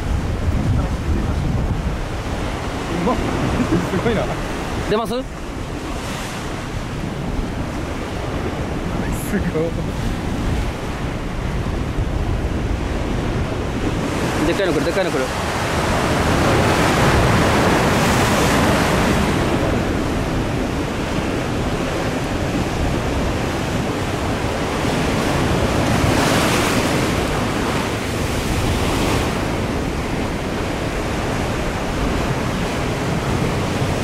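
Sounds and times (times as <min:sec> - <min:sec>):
waves crashing on rocky shore: 0:00.0 - 0:34.0.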